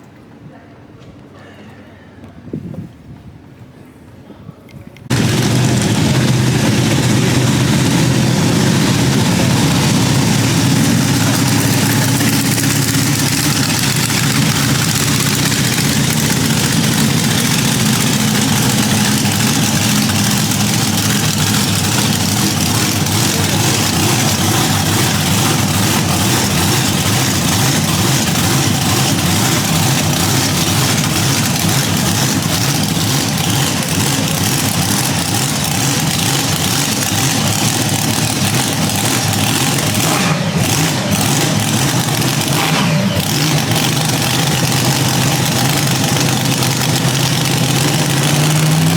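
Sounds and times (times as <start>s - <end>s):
large engine idling: 5.1s - 48.9s.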